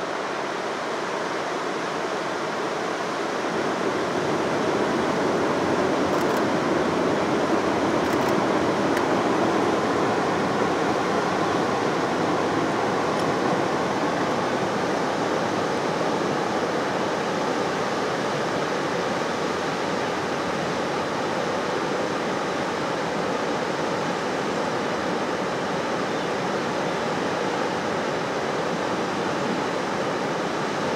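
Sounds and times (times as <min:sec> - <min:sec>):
river rushing over shallows: 0:00.0 - 0:30.9.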